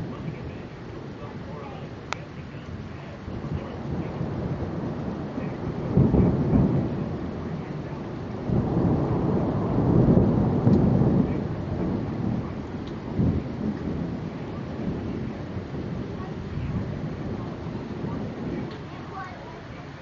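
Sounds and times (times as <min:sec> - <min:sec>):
steady rain: 0:00.0 - 0:20.0
thunder rumbling: 0:00.0 - 0:20.0.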